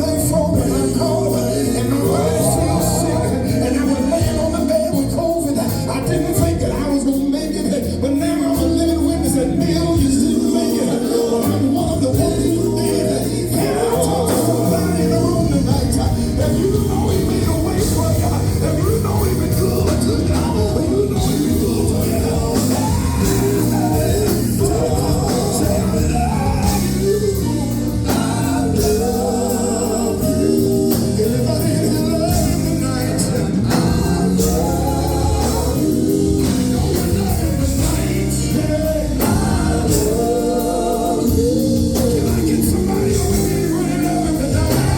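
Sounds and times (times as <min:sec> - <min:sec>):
band with bass and drums: 0:00.0 - 0:44.9
vocal group singing in harmony: 0:00.0 - 0:44.9.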